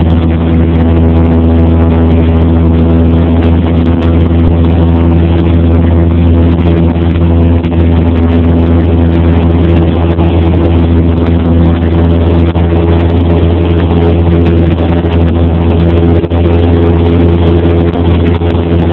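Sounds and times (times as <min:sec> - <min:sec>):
airplane engine drone in cabin: 0:00.0 - 0:18.9.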